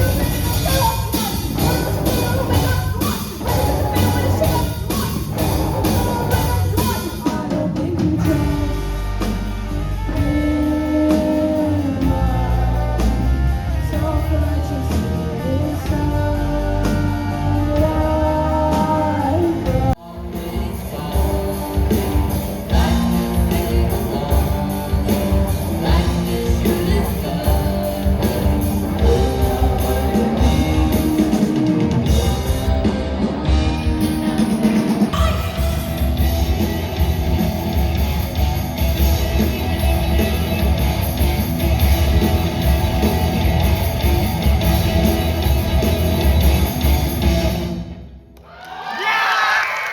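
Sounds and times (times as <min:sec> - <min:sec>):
drum kit: 0:00.0 - 0:48.2
electric guitar: 0:00.0 - 0:48.4.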